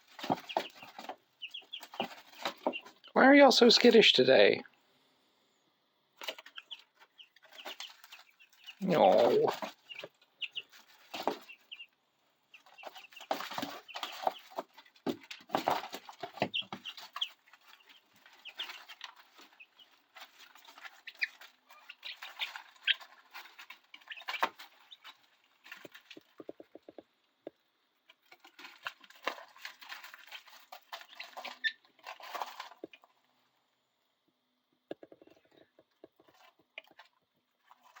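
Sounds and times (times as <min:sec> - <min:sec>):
scratching and pecking in bedding: 0:00.0 - 0:04.1, 0:06.2 - 0:33.8, 0:34.8 - 0:38.0
chicks peeping: 0:00.0 - 0:04.9, 0:05.5 - 0:38.0.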